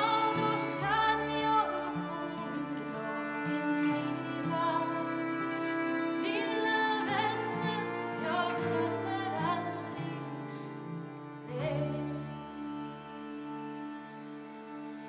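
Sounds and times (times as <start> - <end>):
acoustic guitar: 0.0 - 15.0
folk tune on violins: 0.0 - 15.0
harmonium chords: 0.0 - 15.0.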